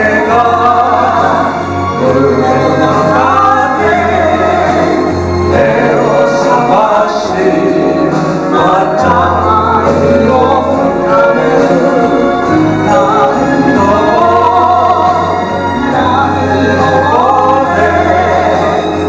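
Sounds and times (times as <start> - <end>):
karaoke backing track: 0.0 - 19.0
man singing into microphone: 0.0 - 19.0.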